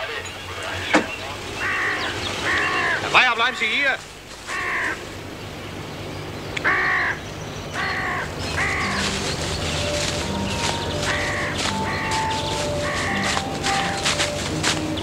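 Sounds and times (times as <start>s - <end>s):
crows cawing: 1.4s - 5.2s, 6.6s - 15.0s.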